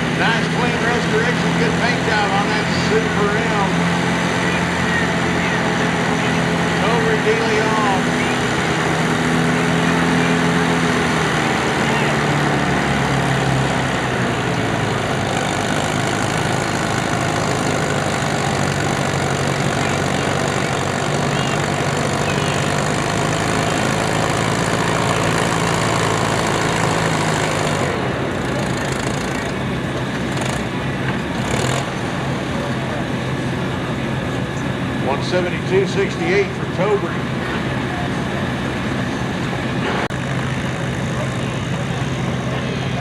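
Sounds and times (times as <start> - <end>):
tractor engine running under load: 0.0 - 43.0.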